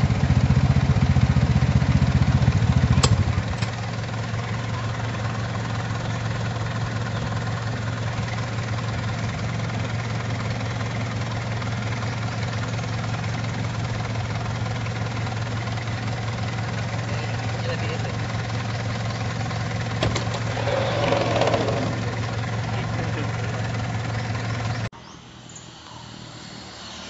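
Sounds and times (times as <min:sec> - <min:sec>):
louder throbbing engine: 0:00.0 - 0:24.9
vehicle engine idling: 0:00.0 - 0:27.0.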